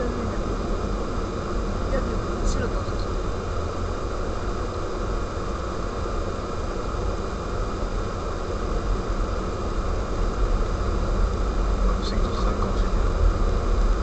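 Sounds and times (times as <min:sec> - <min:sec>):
car driving on snowy road: 0:00.0 - 0:04.8, 0:05.6 - 0:14.0.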